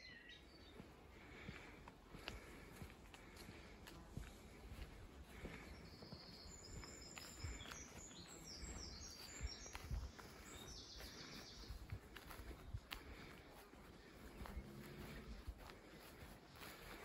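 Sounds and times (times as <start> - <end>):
bird song: 0.0 - 2.9, 4.2 - 17.0.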